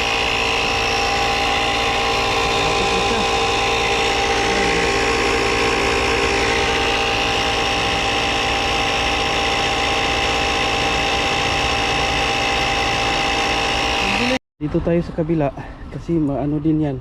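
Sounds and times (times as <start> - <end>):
tire inflator compressor running: 0.0 - 14.4.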